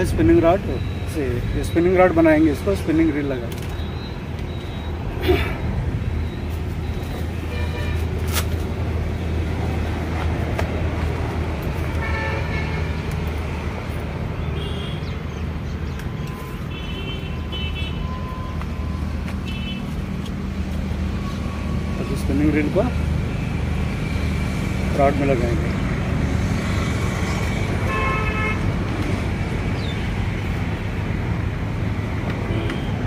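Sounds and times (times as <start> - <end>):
distant road traffic hum: 0.0 - 33.0.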